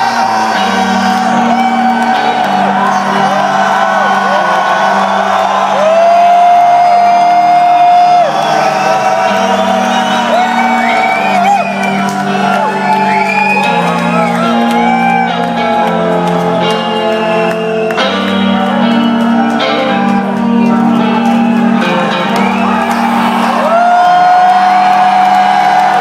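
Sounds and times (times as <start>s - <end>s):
metal band playing live: 0.0s - 26.0s.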